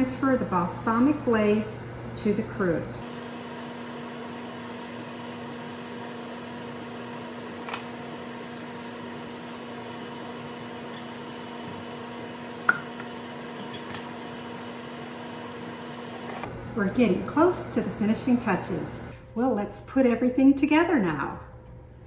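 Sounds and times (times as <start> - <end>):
oven hum: 0.0 - 22.0.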